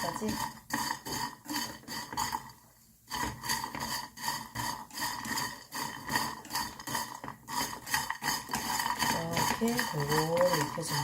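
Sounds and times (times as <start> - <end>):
chopsticks scraping frying pan: 0.0 - 11.0
dry noodles clattering: 0.0 - 11.0.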